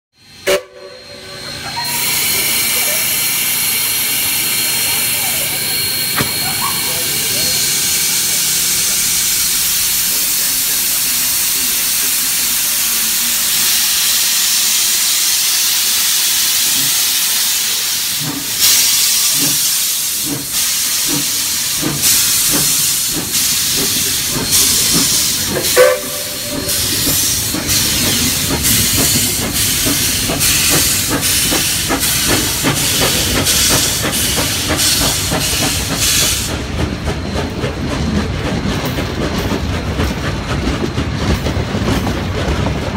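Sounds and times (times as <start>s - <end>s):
steam locomotive exhaust chuffs: 0.3s - 42.9s
steam blowing off: 0.4s - 36.7s.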